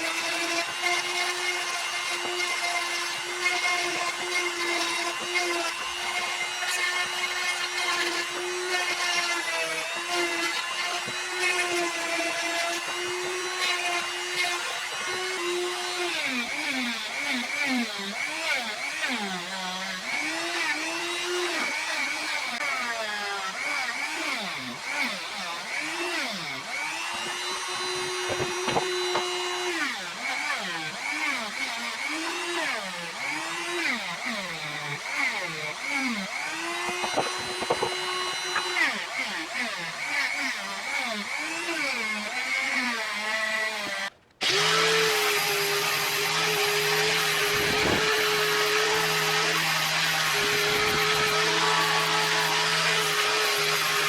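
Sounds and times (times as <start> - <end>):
power tool whining: 0.0 - 54.0.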